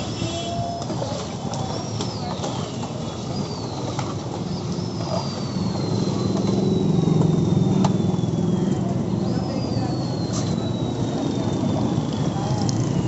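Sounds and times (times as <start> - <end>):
engine: 0.0 - 13.0
high tones sliding downward: 0.0 - 13.0
street traffic noise: 0.0 - 13.0.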